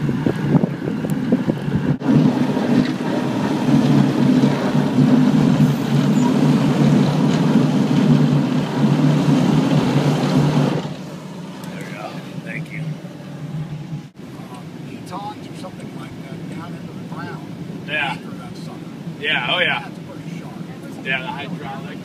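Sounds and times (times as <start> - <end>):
snowplow truck rumbling: 0.0 - 22.0.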